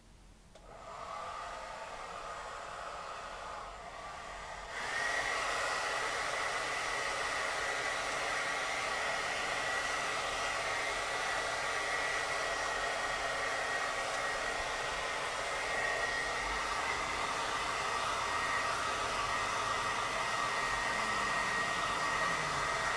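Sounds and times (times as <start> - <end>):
hair dryer blowing: 0.6 - 22.9.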